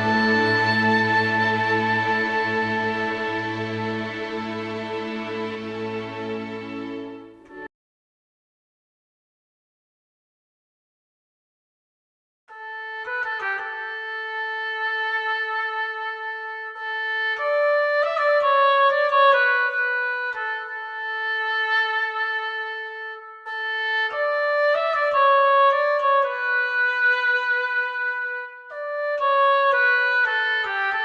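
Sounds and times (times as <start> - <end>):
oboe playing slow melody: 0.0 - 7.7, 12.6 - 31.0.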